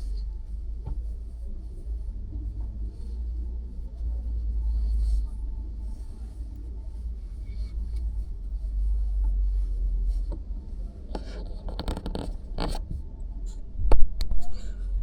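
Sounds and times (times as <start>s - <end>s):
scratchy rustling and scraping: 0.0s - 13.0s
car engine and road rumble: 0.0s - 15.0s.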